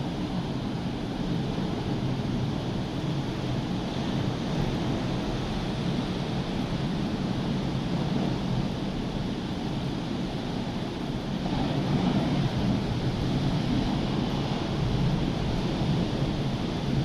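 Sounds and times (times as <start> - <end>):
rough sea surf washing: 0.0 - 17.0
wind rumbling on microphone: 0.0 - 17.0.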